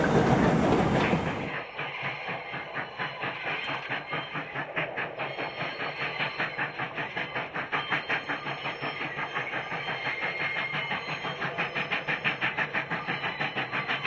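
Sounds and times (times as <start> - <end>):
hiss of steam: 0.0 - 14.0
steam locomotive exhaust beating: 0.0 - 14.0.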